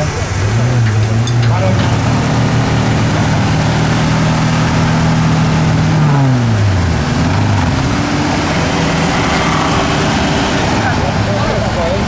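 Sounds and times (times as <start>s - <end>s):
suv engines droning: 0.0s - 12.0s.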